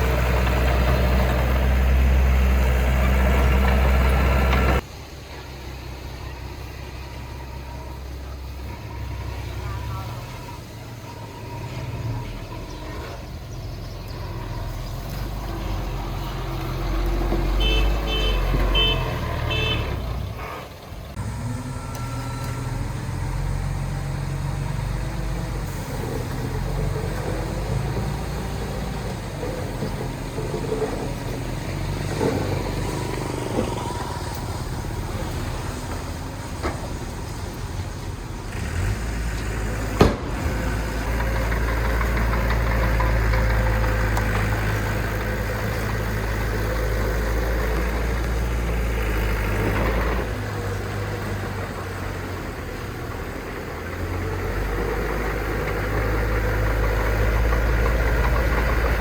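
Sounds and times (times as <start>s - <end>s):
heavy machinery diesel engines: 0.0s - 59.0s.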